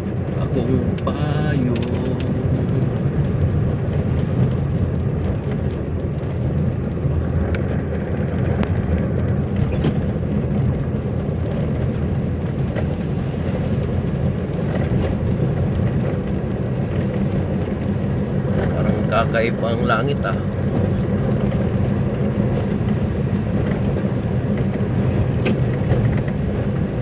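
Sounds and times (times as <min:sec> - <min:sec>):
car road and engine noise: 0:00.0 - 0:27.0
raindrops tapping windshield: 0:00.0 - 0:27.0.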